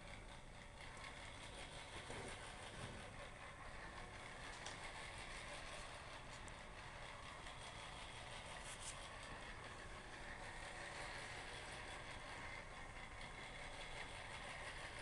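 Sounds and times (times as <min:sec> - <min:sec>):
small motors whirring: 0:00.0 - 0:15.0.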